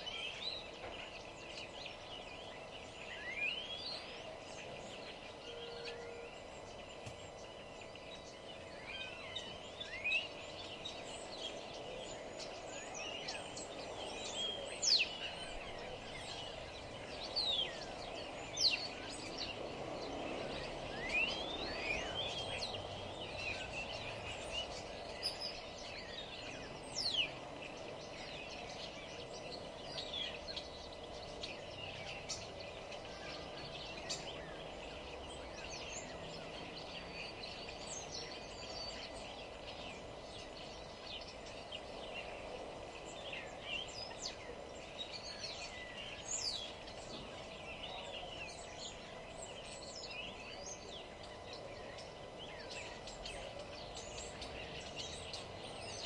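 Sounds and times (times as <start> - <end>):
songbirds chirping and whistling: 0.0 - 56.0
steady background hum: 0.0 - 56.0.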